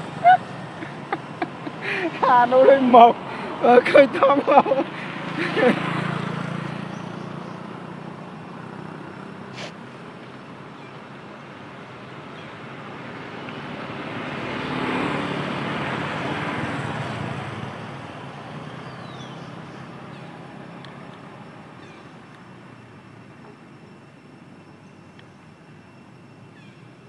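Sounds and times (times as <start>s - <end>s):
motorbike passing: 0.0s - 24.2s.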